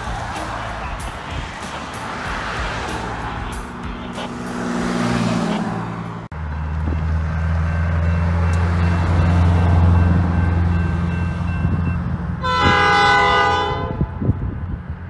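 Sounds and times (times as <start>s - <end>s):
car road noise: 0.0s - 15.0s
diesel locomotive rumble: 0.0s - 15.0s.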